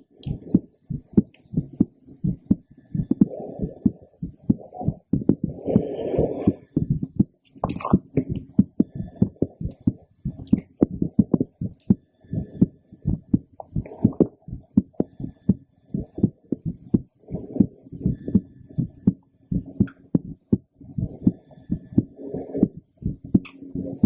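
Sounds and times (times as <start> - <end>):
heartbeat through stethoscope: 0.0 - 24.0.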